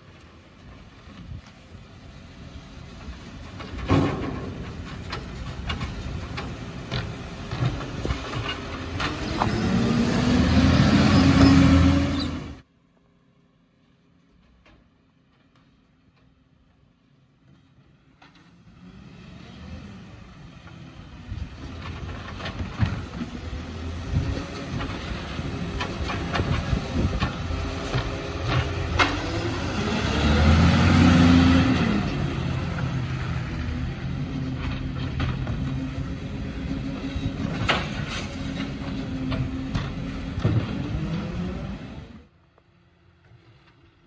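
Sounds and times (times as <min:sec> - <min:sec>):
garbage truck diesel engine: 0:00.0 - 0:44.0.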